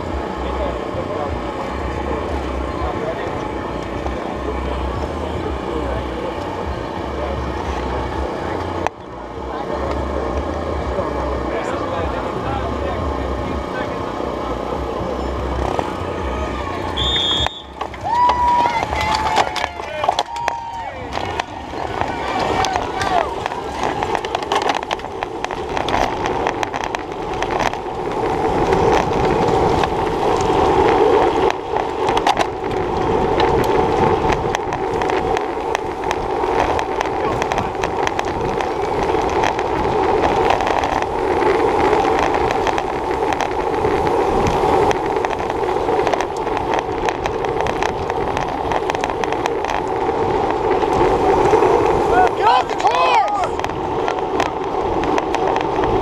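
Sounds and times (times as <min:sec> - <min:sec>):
bicycle tyres on pavement: 0:00.0 - 0:56.0
wavering hum: 0:00.0 - 0:56.0
wind noise: 0:00.0 - 0:56.0.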